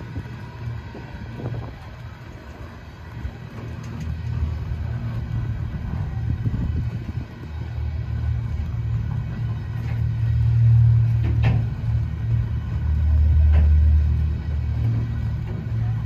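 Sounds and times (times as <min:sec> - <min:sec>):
freight train rolling past: 0:00.0 - 0:16.0
wheel clicks on rail: 0:00.0 - 0:16.0.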